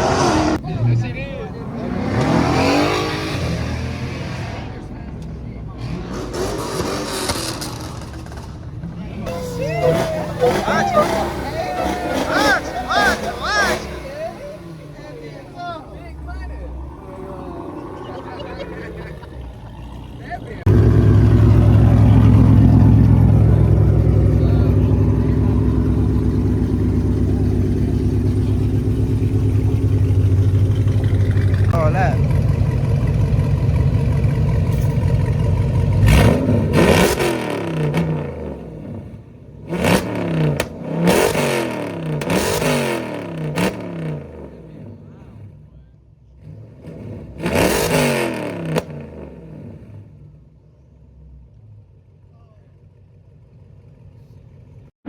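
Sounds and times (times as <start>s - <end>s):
car engine idling: 0.0s - 47.4s, 48.5s - 55.0s
car engine revving: 0.0s - 52.2s.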